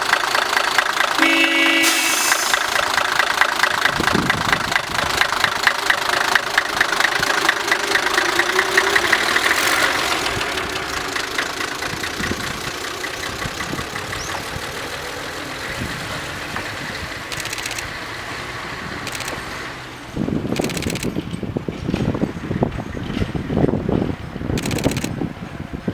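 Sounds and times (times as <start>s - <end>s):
diesel engine knocking clatter: 0.0s - 1.7s, 2.5s - 19.5s, 20.1s - 25.9s.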